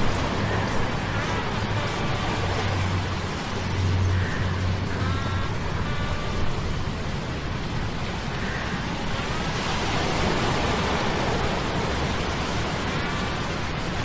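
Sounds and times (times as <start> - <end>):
rushing surf: 0.0 - 14.0.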